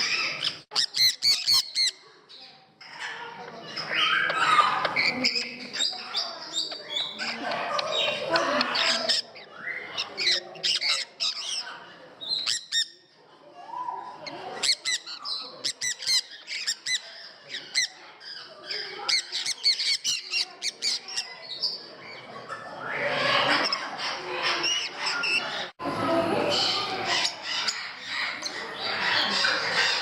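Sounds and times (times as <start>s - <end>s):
parrots squawking and chirping: 0.0s - 13.2s, 13.8s - 30.0s
people's voices: 0.0s - 30.0s.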